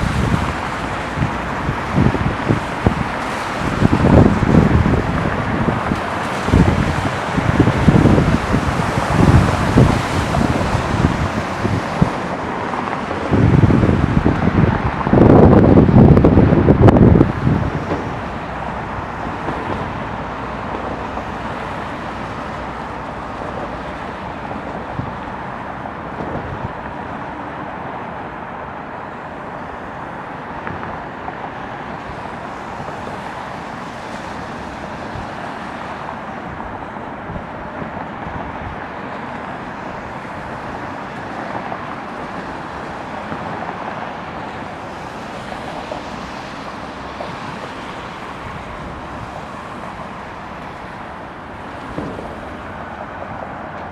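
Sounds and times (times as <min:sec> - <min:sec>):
wind noise: 0:00.0 - 0:28.0, 0:30.6 - 0:53.9
road traffic: 0:00.0 - 0:53.9.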